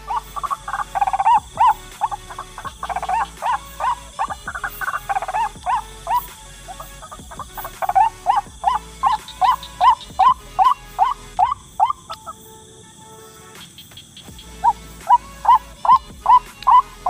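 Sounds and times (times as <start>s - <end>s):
bird calling harsh notes: 0.0s - 17.0s.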